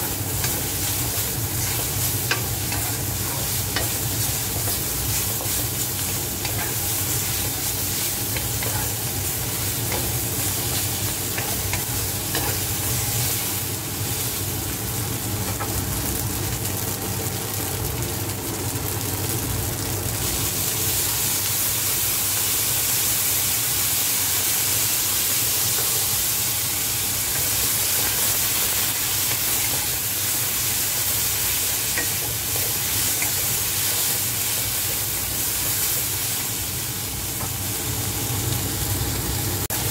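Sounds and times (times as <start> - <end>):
food sizzling in a hot wok: 0.0 - 39.9.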